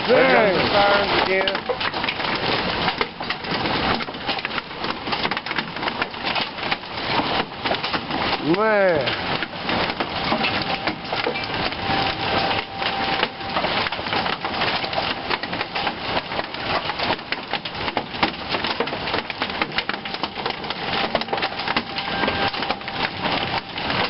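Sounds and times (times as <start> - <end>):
large hailstones hitting hard surfaces: 0.0 - 24.0.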